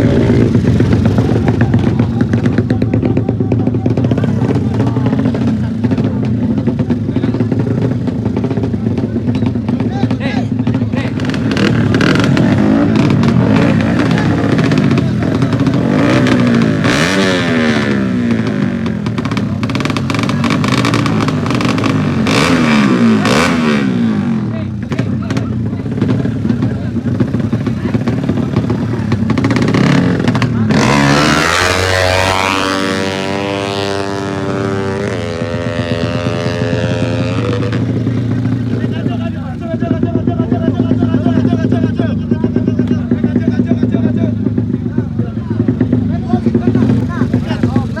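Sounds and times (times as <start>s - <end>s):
motorcycle engines revving: 0.0s - 48.0s.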